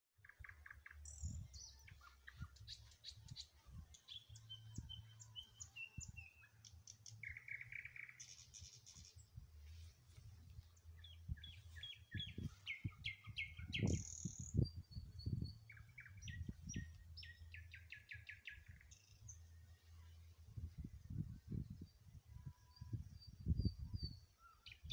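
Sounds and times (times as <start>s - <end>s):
songbirds singing: 0.2s - 24.9s.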